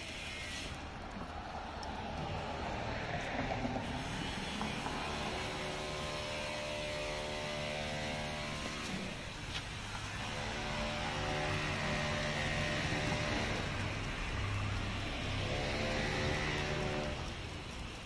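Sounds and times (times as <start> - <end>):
engine hum: 0.0 - 18.0
traffic noise: 0.0 - 18.0.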